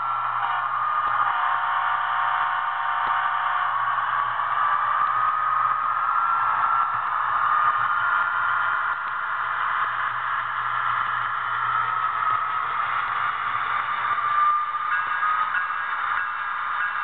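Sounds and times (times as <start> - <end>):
faint steady whine: 0.0 - 17.0
model train rolling on track: 0.0 - 17.0.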